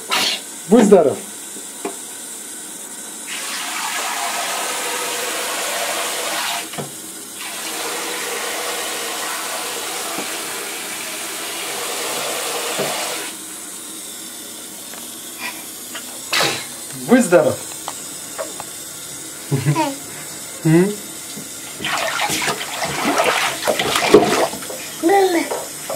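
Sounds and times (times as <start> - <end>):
shower water running into bathtub: 0.0 - 14.3, 15.1 - 25.9.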